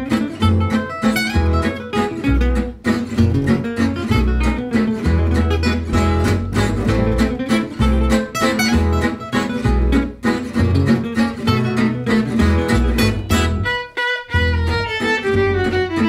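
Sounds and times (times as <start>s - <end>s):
acoustic guitar music with beat: 0.0s - 16.0s
bass line: 0.0s - 16.0s.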